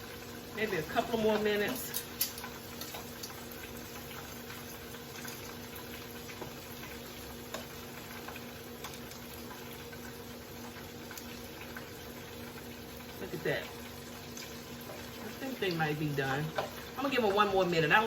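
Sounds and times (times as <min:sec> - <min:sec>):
shrimp deep-frying in hot oil: 0:00.0 - 0:18.0.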